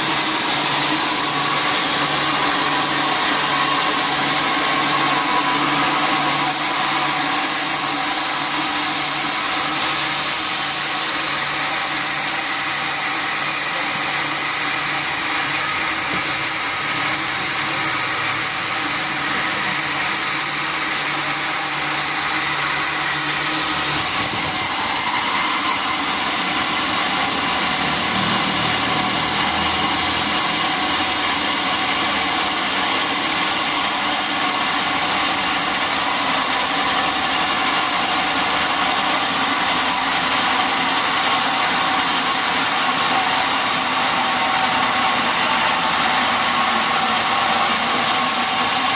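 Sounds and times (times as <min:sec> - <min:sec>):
high machine whine: 0:00.0 - 0:48.9
sawmill machinery running: 0:00.0 - 0:48.9.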